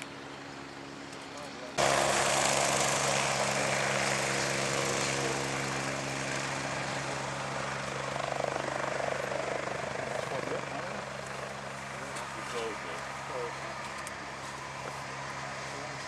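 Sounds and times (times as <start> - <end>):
helicopter turbine whine: 0.0 - 16.0.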